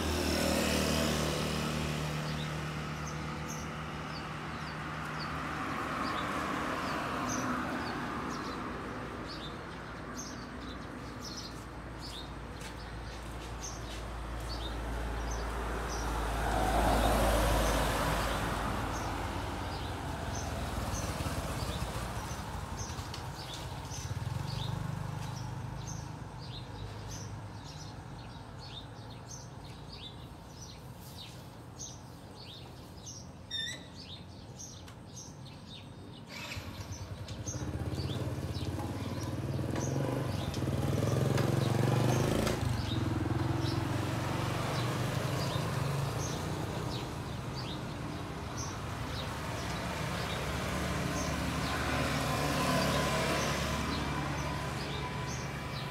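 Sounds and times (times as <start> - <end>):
vehicle passing: 0.0 - 29.4, 34.0 - 55.9
small birds chirping: 0.1 - 55.9.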